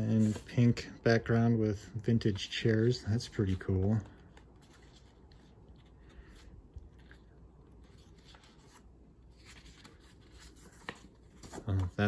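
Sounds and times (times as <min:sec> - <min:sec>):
paper sheet rustling: 0:00.0 - 0:00.8, 0:02.2 - 0:12.0.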